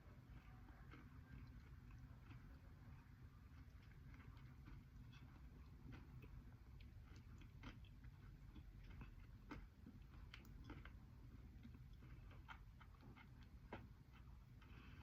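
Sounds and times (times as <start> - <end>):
chewing crunches and crackles: 0.0 - 15.0.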